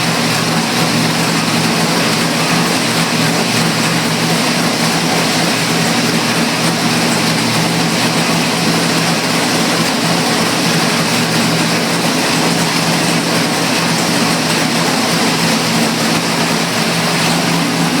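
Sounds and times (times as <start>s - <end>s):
racing engine running loud: 0.0s - 18.0s.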